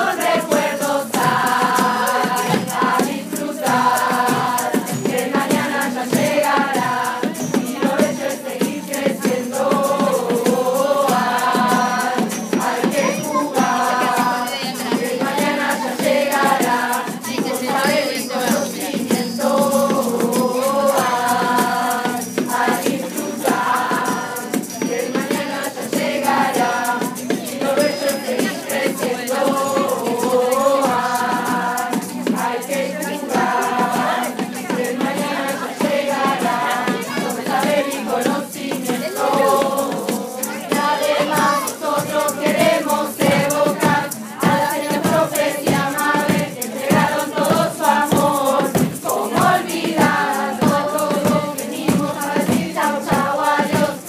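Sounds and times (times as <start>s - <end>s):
acoustic guitar: 0.0s - 54.0s
group of voices singing: 0.0s - 54.0s
shakers rattling: 0.0s - 54.0s.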